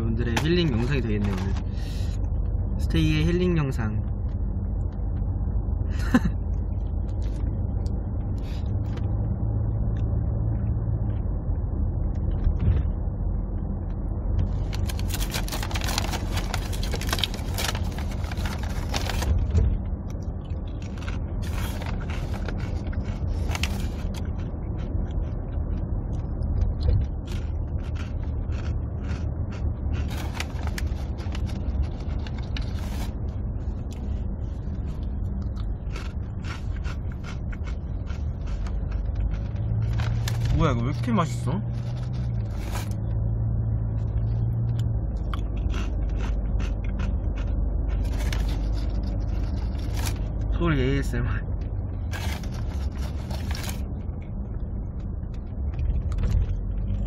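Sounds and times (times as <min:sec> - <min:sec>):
car road rumble: 0:00.0 - 0:57.0.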